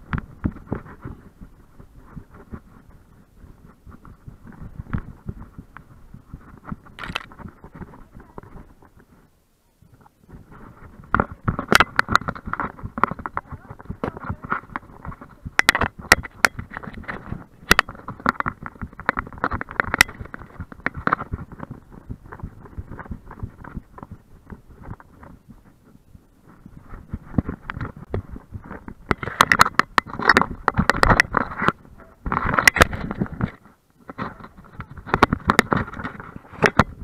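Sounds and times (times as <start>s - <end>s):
camera jostling in mount: 3.6s - 9.0s, 10.0s - 25.4s, 26.5s - 37.0s.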